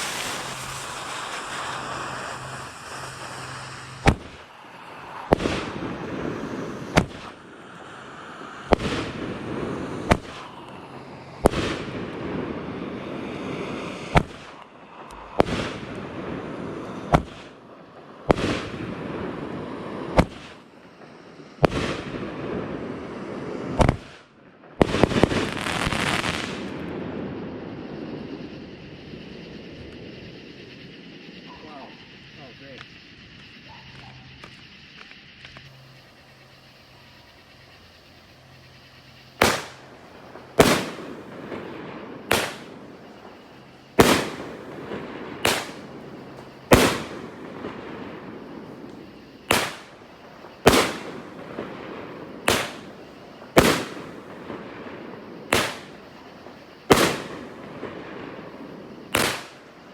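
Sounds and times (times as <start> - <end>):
crackling hissing firework breaks: 0.0 - 59.9.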